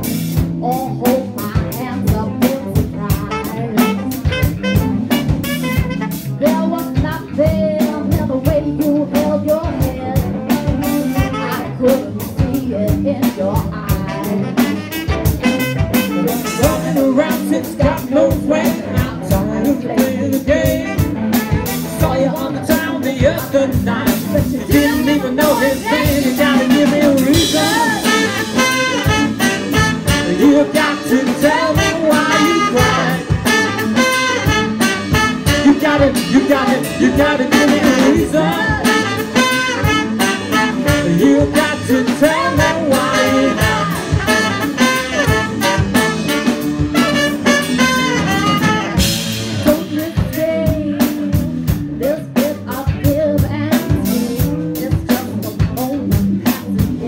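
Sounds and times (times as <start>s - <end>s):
woman singing: 0.0s - 5.2s, 6.2s - 57.0s
live band playing: 0.0s - 57.0s.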